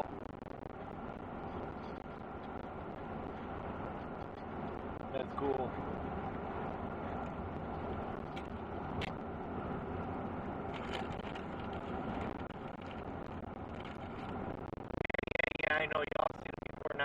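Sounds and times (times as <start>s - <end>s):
truck engine and tyres: 0.0s - 14.9s.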